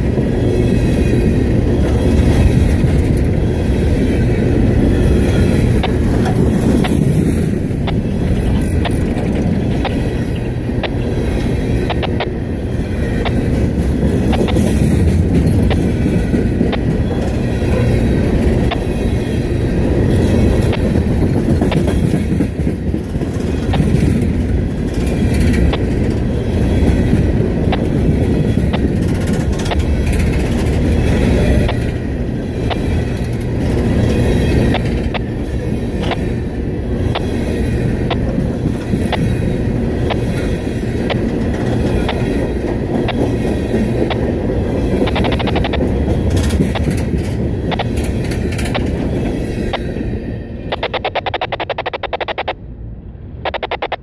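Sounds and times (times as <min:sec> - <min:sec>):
wheels clicking over rail joints: 0:00.0 - 0:52.6
train cars rumbling on rails: 0:00.0 - 0:54.0.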